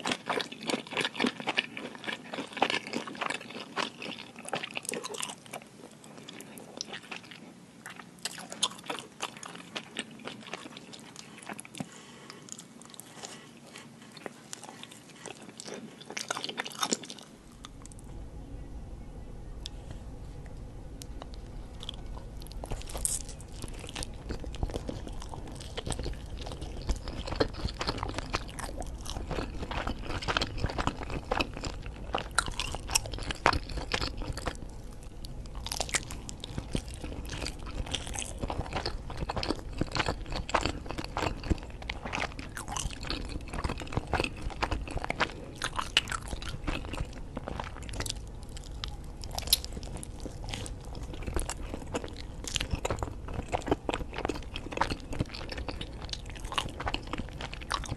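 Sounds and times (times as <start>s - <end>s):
biting and chewing food: 0.0s - 18.0s, 21.0s - 57.9s.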